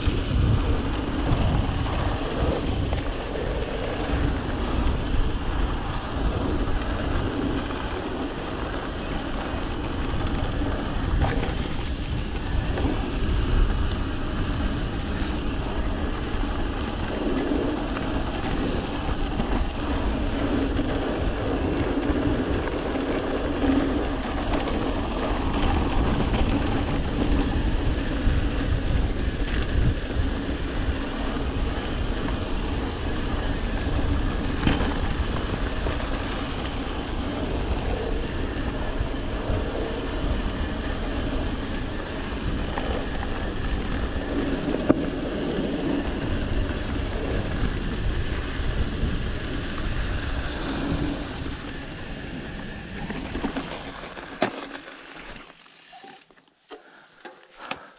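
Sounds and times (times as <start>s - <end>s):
wind rumbling on microphone: 0.0s - 55.4s
bike clicks and rattles: 0.0s - 57.9s
bike tyres rolling on dirt: 0.0s - 57.9s.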